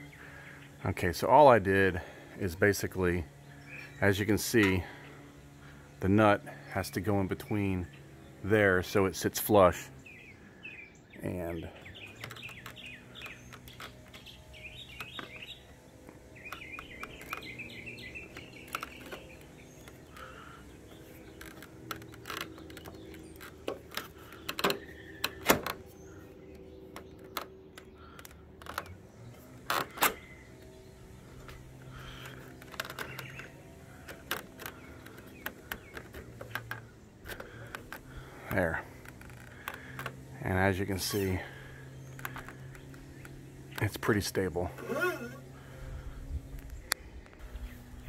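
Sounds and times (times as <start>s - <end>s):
birds chirping: 0.0s - 48.0s
low steady hum: 0.0s - 48.0s.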